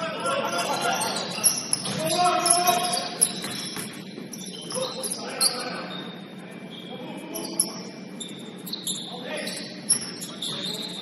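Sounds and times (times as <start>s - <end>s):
voices in background: 0.0s - 11.0s
sneakers squeaking on court: 0.5s - 11.0s.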